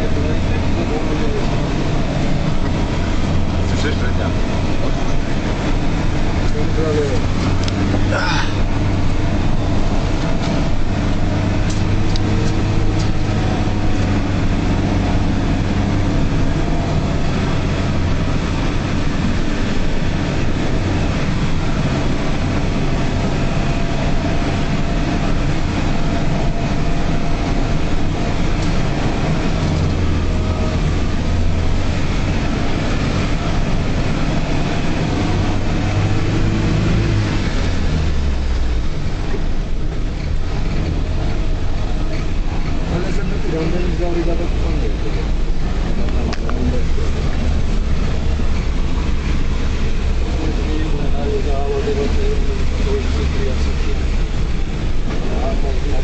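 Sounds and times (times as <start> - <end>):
off-road vehicle engine under load: 0.0 - 56.0
vehicle rumble and rattle: 0.0 - 56.0.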